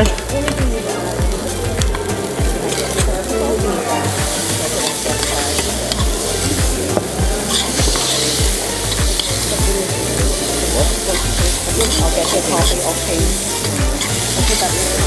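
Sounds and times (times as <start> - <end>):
rice sizzling in oil: 0.0 - 15.0.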